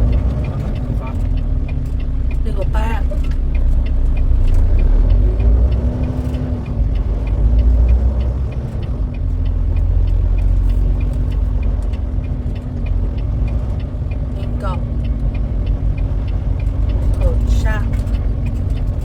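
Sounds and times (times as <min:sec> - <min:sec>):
diesel truck engine rumbling: 0:00.0 - 0:19.0
faint regular ticking: 0:00.0 - 0:19.0.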